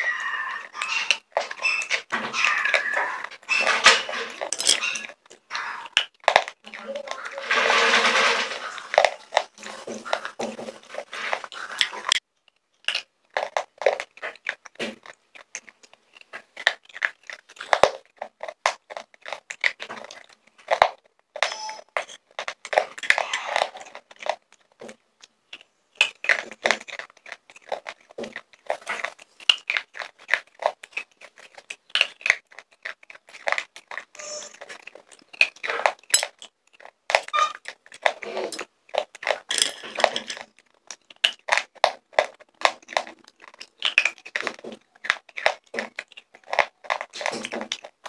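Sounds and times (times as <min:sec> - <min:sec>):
crunching and chewing: 0:00.0 - 0:48.0.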